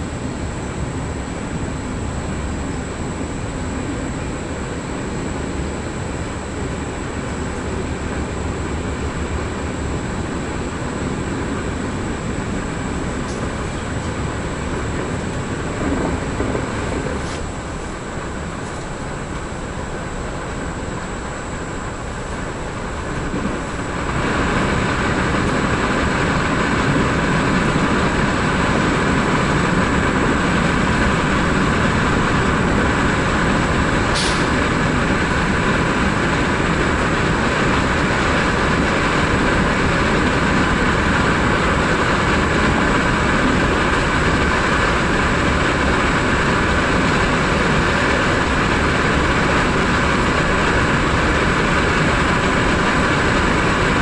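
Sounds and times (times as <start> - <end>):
train running noise: 0.0 - 54.0.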